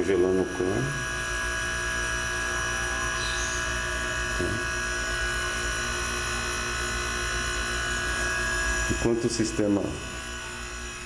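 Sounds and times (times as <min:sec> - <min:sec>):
high whine: 0:00.0 - 0:11.0
refrigeration compressor humming: 0:00.0 - 0:11.0.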